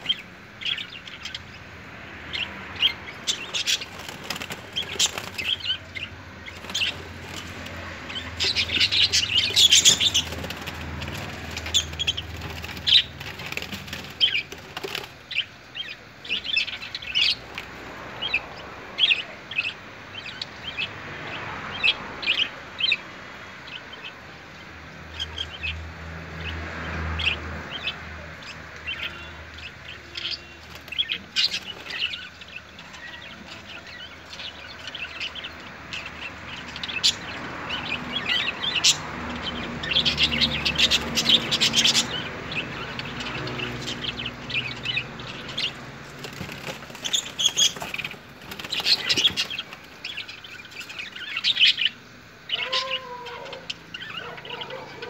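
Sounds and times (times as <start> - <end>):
budgerigars chirping: 0.0 - 17.6, 27.2 - 55.0.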